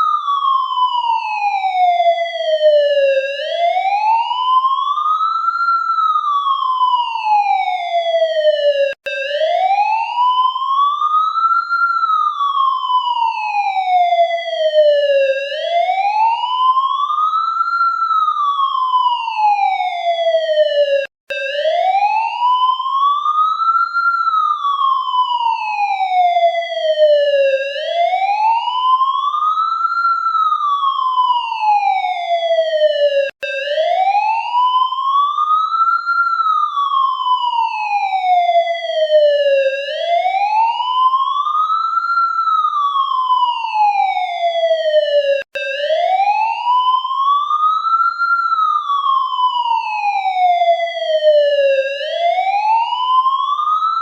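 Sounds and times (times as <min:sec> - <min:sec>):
police siren wailing: 0:00.0 - 0:54.0.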